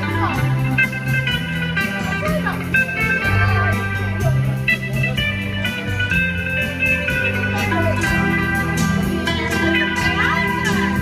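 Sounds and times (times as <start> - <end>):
bass line: 0.0 - 11.0
electric lead guitar melody: 0.0 - 11.0
light drums: 0.0 - 11.0.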